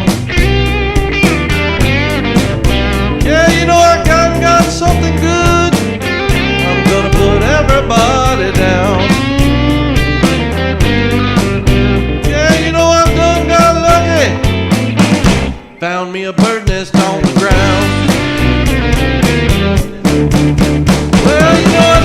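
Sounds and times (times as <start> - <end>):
blues band playing: 0.0 - 22.0
lead guitar bending notes: 0.0 - 22.0.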